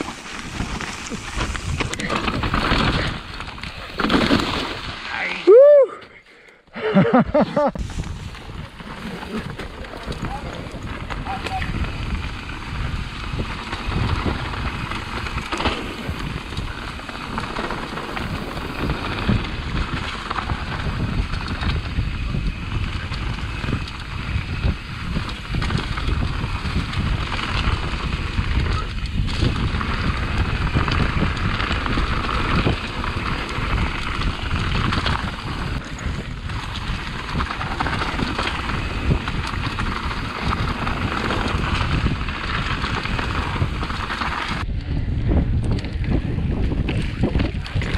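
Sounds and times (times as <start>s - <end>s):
bike rattling over bumps: 0.0s - 5.4s, 7.8s - 47.9s
bike tyres on rocky dirt: 0.0s - 6.3s, 7.6s - 47.9s
wind on microphone: 7.2s - 47.9s.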